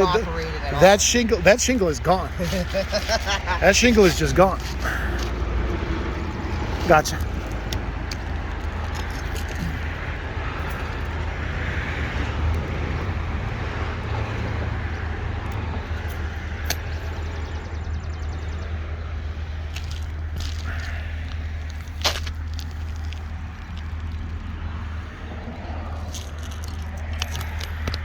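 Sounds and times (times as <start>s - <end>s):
outdoor rumble and hiss: 0.0s - 28.0s.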